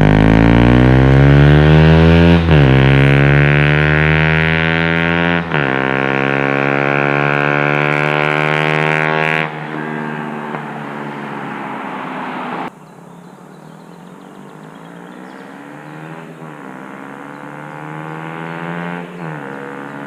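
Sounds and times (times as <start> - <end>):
motorcycle engine revving hard: 0.0 - 12.7, 14.5 - 20.0.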